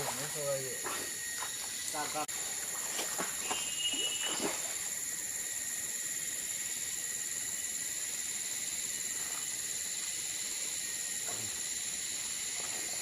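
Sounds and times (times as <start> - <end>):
shrill chorus of insects: 0.0 - 13.0.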